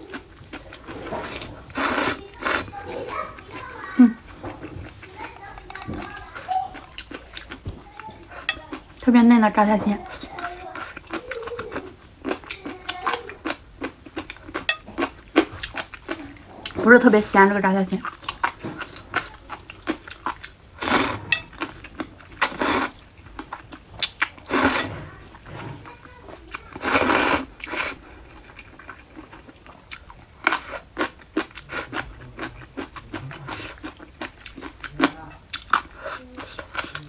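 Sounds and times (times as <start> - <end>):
crunchy chewing: 0.0 - 9.1, 9.9 - 16.8, 18.0 - 37.0
wet chewing clicks: 0.0 - 37.0.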